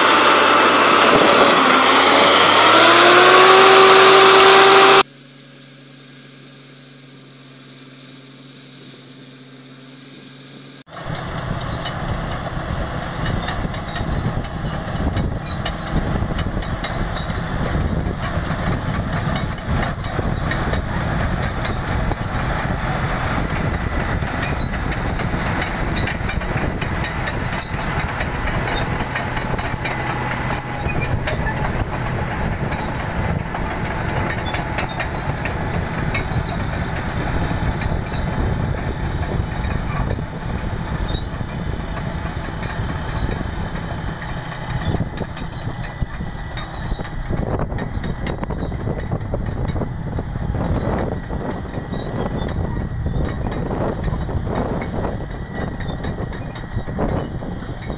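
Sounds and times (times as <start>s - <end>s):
steel tracks clattering: 0.0s - 5.0s, 10.9s - 57.9s
bulldozer diesel engine under load: 0.0s - 5.1s, 8.5s - 57.9s.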